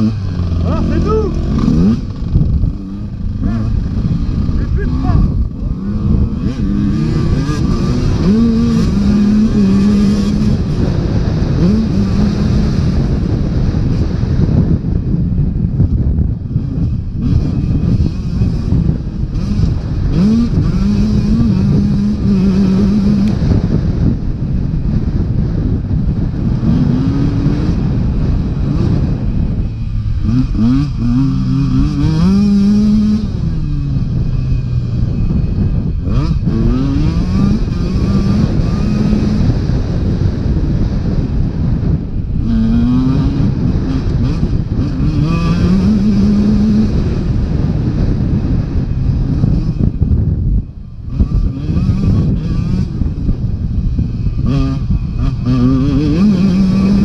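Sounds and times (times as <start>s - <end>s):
dirt bike engine revving: 0.0s - 14.8s, 16.3s - 24.3s, 25.0s - 57.0s
wind rush on microphone: 0.0s - 57.0s.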